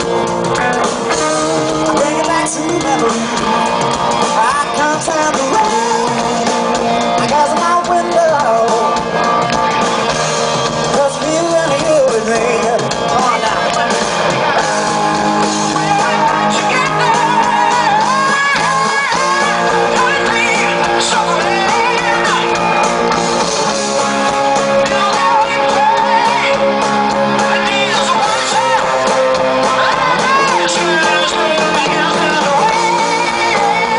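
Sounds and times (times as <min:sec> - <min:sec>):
man singing: 0:00.0 - 0:09.4, 0:10.8 - 0:22.9, 0:24.5 - 0:33.9
band playing: 0:00.0 - 0:33.9.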